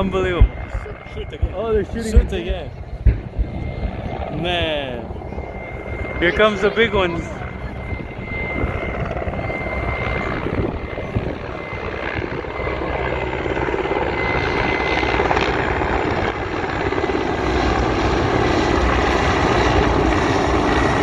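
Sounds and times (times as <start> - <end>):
helicopters flying past: 0.0 - 21.0.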